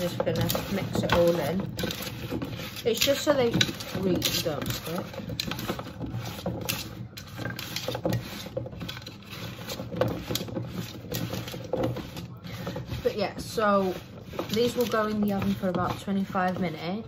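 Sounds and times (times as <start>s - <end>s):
potato wedges scraping on metal tray: 0.0s - 17.0s.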